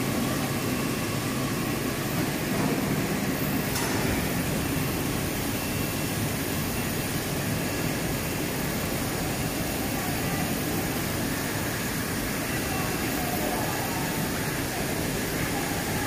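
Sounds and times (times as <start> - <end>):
conveyor drive motors: 0.0 - 16.0.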